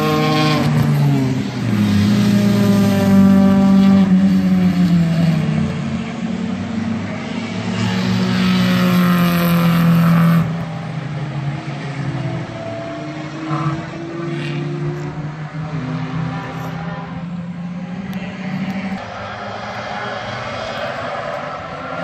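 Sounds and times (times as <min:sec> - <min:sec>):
race car engine revving: 0:00.0 - 0:22.0.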